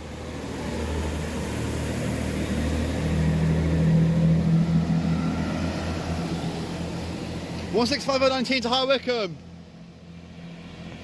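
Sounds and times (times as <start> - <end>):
diesel train engines rumbling: 0.0 - 11.0
strong low engine drone: 0.0 - 11.0.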